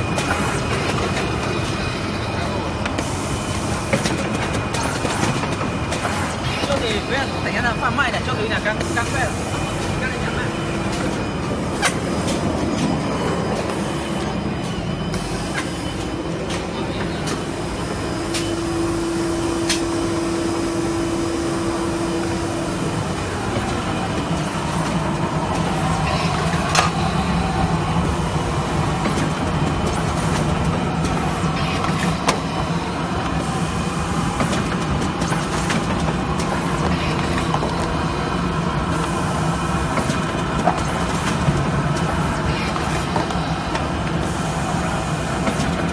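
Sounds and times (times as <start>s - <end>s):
machine mechanical drone: 0.0s - 45.9s.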